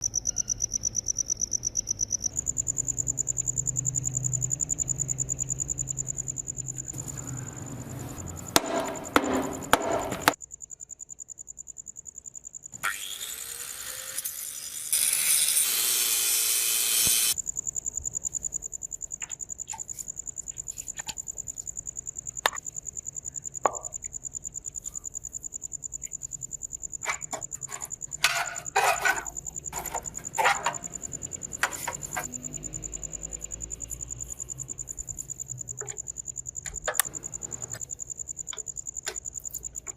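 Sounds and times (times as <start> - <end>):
insect chirping trill: 0.0 - 39.9.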